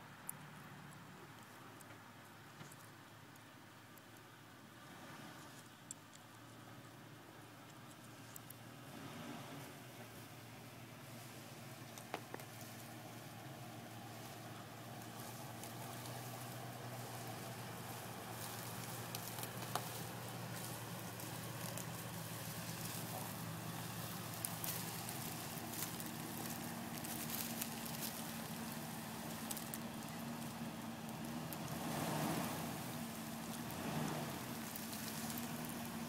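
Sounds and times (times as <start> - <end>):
car engine idling: 0.0 - 36.0
light crackles and ticks: 0.1 - 4.5, 5.4 - 8.7, 11.0 - 36.0.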